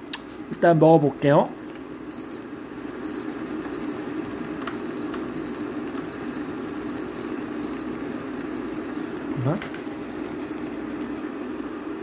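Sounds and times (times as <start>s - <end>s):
pot boiling: 1.8s - 12.0s.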